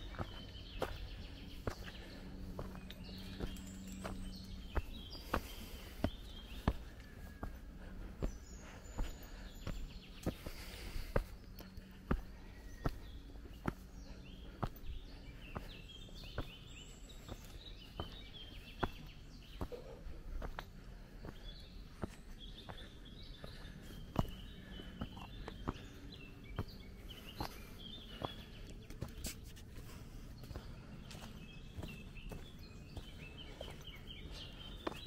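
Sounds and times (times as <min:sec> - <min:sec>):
birds chirping: 0:00.0 - 0:35.0
footsteps on leafy dirt path: 0:00.0 - 0:35.0.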